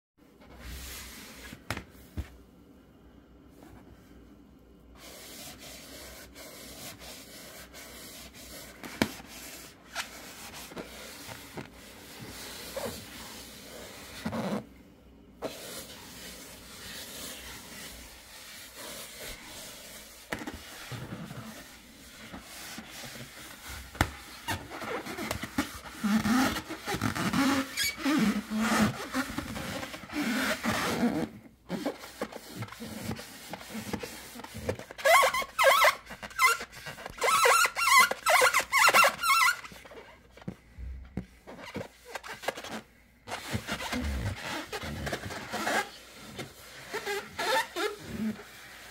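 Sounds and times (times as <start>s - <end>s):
balloon rubber rubbing and squeaking: 5.2s - 14.7s, 15.4s - 48.9s.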